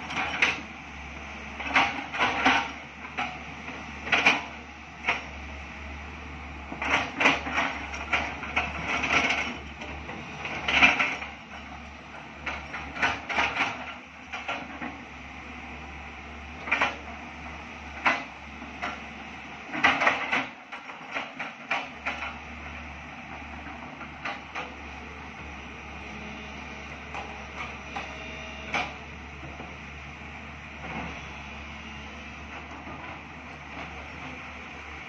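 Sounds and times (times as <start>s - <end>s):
excavator engine hum: 0.0s - 35.0s.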